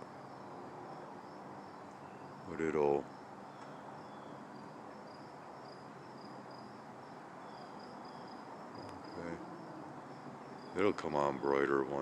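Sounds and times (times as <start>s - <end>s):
crickets chirping: 0.0s - 12.0s
low background hiss: 0.0s - 12.0s.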